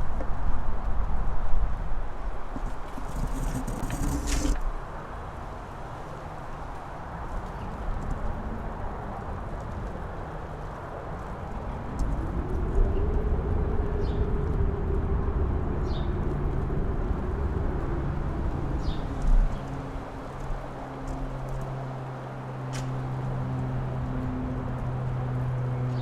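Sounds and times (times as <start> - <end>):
wind buffeting microphone: 0.0 - 26.0
wind gusting and howling: 0.0 - 26.0.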